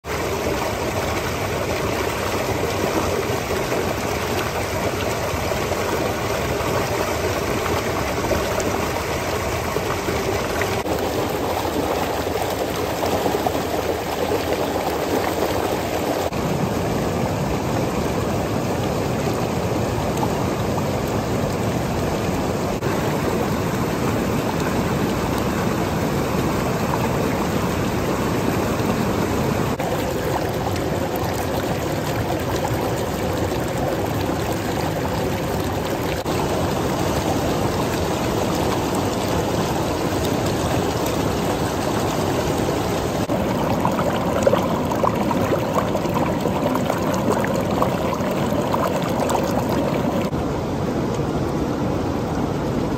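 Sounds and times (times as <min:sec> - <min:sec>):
river water rushing over stones: 0:00.0 - 0:52.9.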